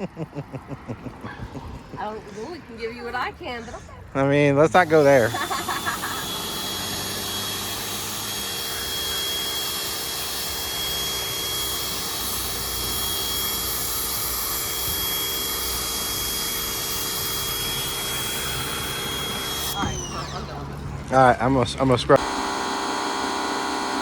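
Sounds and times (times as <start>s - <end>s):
water jet hissing: 2.0s - 21.4s
pressure washer motor whining: 2.0s - 24.0s.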